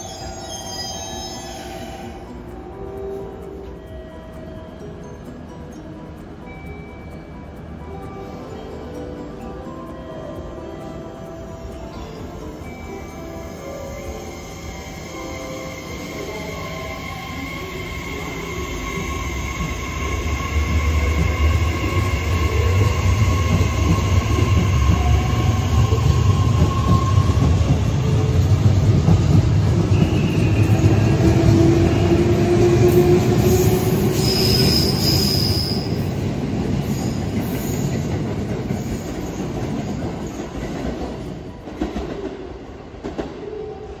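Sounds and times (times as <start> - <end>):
drawn-out high tones: 0.0 - 40.6
train rumbling past: 0.0 - 44.0.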